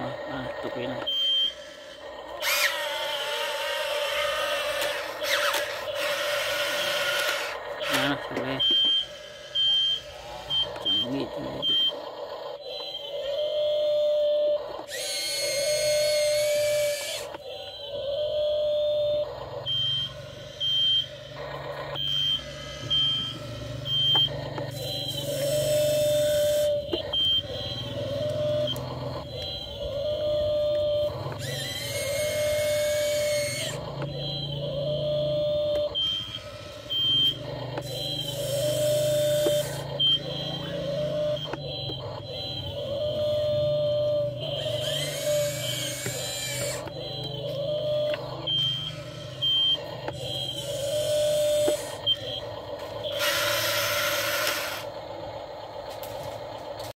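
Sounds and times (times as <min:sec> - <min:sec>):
toy excavator electric motors whining: 0:00.0 - 0:57.0.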